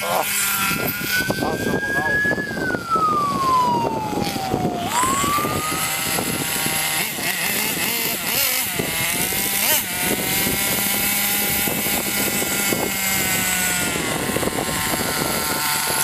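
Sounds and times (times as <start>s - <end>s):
nitro engine of rc buggy: 0.0s - 16.0s.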